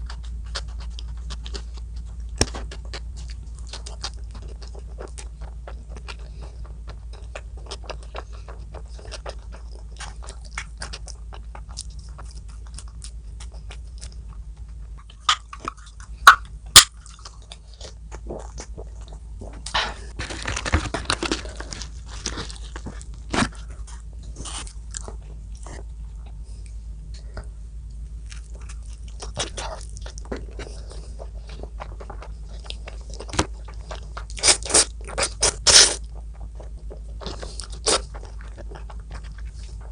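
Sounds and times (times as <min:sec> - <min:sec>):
person chewing and biting food: 0:00.0 - 0:27.2, 0:27.9 - 0:39.9.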